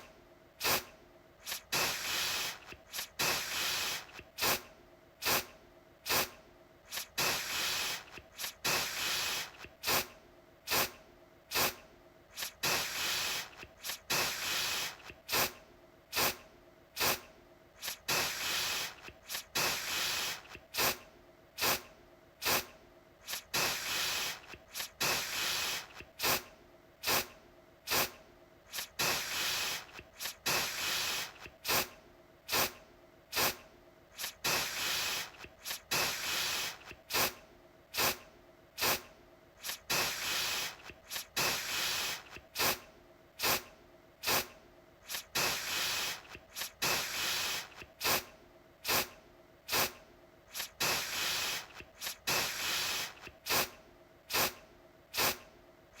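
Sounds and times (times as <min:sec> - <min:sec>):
aerosol can spraying: 0:00.6 - 0:10.1, 0:10.7 - 0:16.4, 0:17.0 - 0:21.0, 0:21.6 - 0:27.3, 0:27.9 - 0:31.9, 0:32.5 - 0:33.6, 0:34.2 - 0:37.4, 0:38.0 - 0:38.2, 0:38.8 - 0:42.8, 0:43.4 - 0:49.1, 0:49.7 - 0:55.4.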